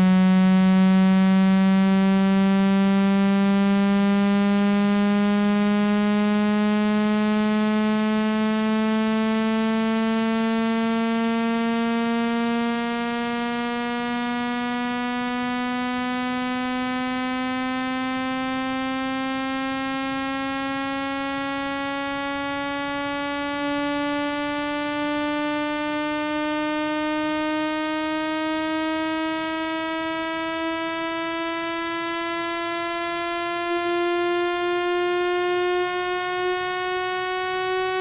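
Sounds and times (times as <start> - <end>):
rising electronic buzzing tone: 0.0 - 38.0.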